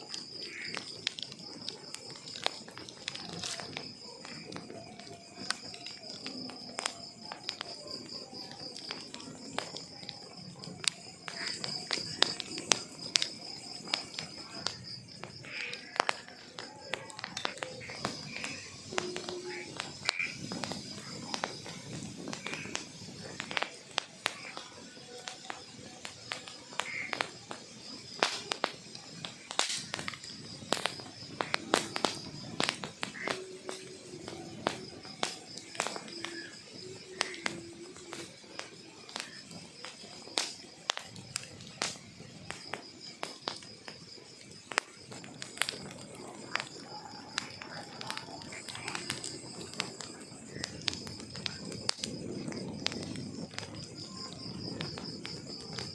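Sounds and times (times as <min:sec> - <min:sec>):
burning logs crackling: 0:00.0 - 0:55.9
crickets trilling: 0:00.0 - 0:55.9
fire hissing flare: 0:00.0 - 0:55.9.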